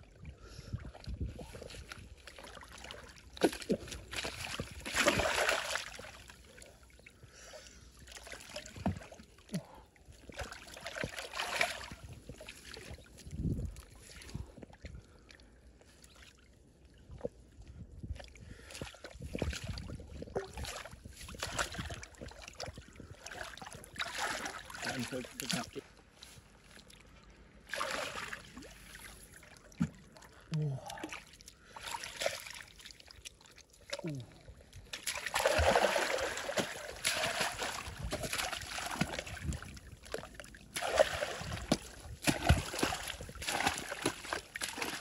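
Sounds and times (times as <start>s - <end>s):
water sloshing and splashing: 0.0s - 45.0s.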